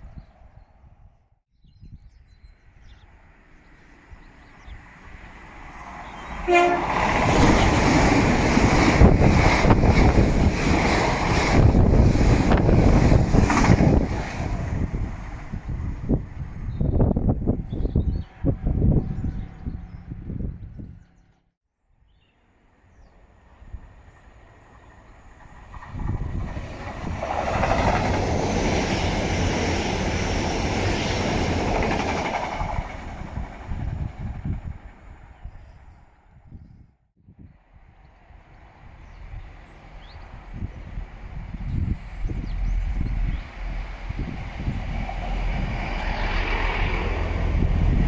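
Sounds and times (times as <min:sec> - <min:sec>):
wind buffeting microphone: 0:00.0 - 0:03.1, 0:04.1 - 0:21.3, 0:25.3 - 0:48.0
train rushing past: 0:03.2 - 0:20.8, 0:23.2 - 0:35.5, 0:37.6 - 0:48.0.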